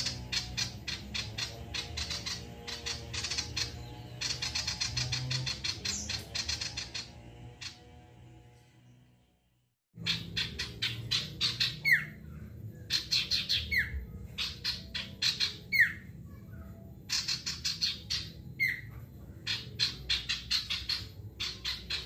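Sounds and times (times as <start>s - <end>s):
songbird singing: 0.0s - 8.0s, 10.0s - 22.0s.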